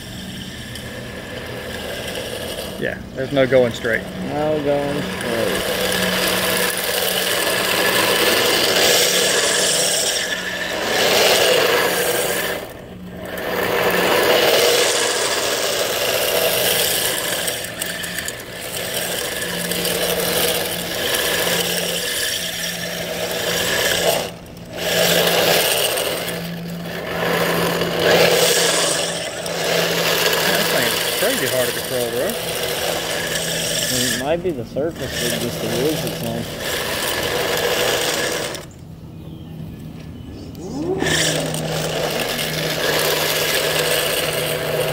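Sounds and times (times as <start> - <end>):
toy car wheels scraping asphalt: 0.0 - 38.8, 40.5 - 44.9.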